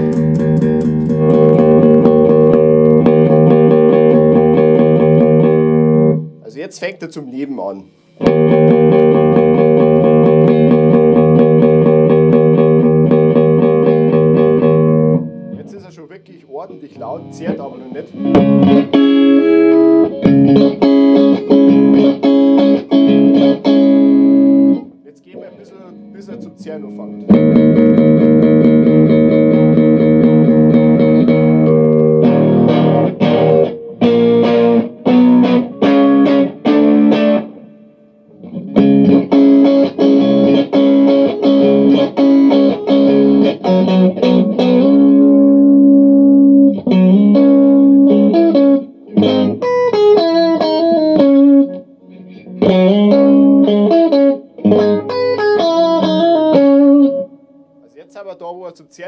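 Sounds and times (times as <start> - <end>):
loud clean electric guitar: 0.0 - 6.5, 7.8 - 58.1.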